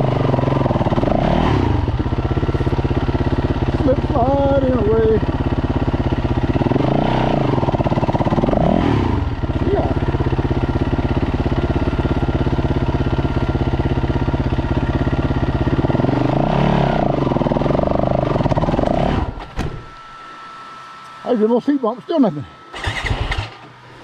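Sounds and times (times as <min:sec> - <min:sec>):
dirt bike engine idling: 0:00.0 - 0:19.4, 0:21.2 - 0:24.0
dirt bike engine revving: 0:00.0 - 0:19.4, 0:22.7 - 0:23.7.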